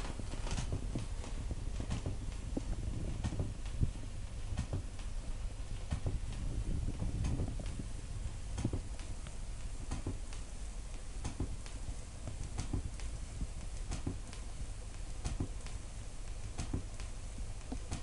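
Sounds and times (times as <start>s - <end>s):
faint hiss: 0.0s - 18.0s
vinyl record clicks and crackle: 0.0s - 18.0s.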